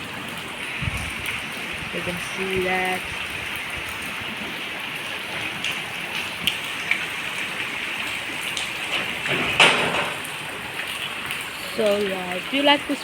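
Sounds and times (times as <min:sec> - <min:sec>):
heavy rain hiss: 0:00.0 - 0:13.0
rain drops ticking: 0:00.0 - 0:13.0.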